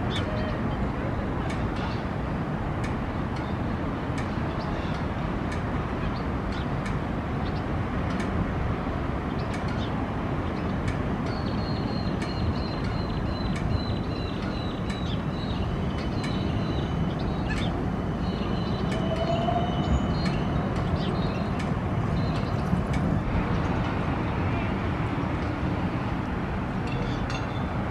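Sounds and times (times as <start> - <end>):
urban traffic rumble: 0.0 - 27.9.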